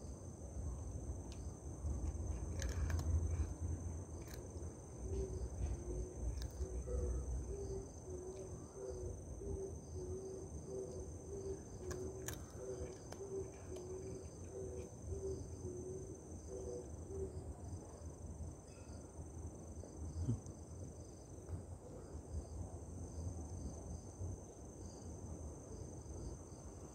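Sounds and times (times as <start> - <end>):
crickets chirring: 0.0 - 26.9.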